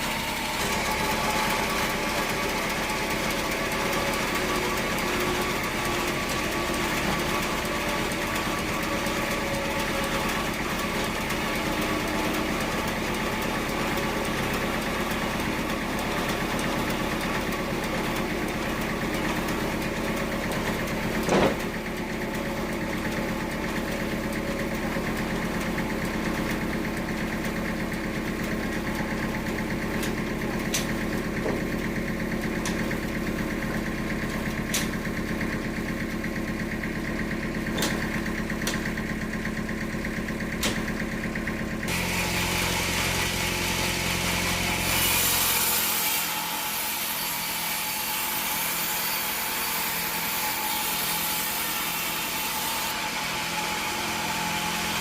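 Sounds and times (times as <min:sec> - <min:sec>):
sawmill engine hum: 0:00.0 - 0:55.0.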